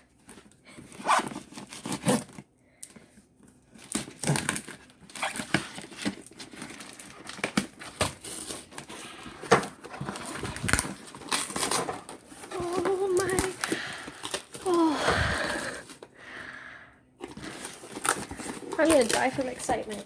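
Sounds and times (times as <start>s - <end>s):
cardboard and wrapping rustling: 0.0s - 16.2s, 17.2s - 20.0s
packing tape tearing: 0.4s - 2.4s, 3.7s - 16.1s, 17.2s - 20.0s.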